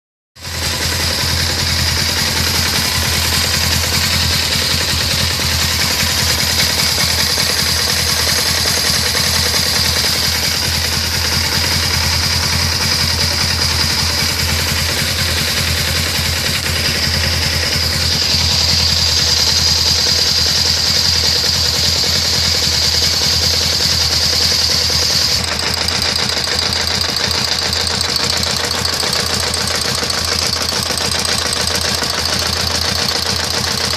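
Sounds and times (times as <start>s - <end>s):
engine ticking: 0.4s - 33.9s
motorcycle engine idling: 0.4s - 33.9s.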